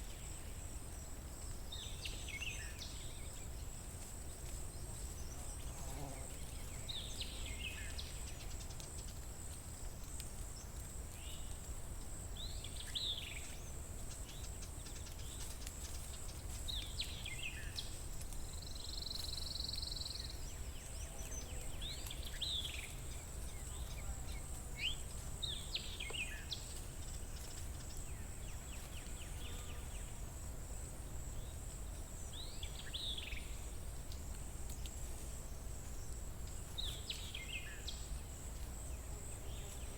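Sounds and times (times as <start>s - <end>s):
songbird singing: 0.0s - 9.4s, 12.2s - 30.3s, 31.2s - 39.9s.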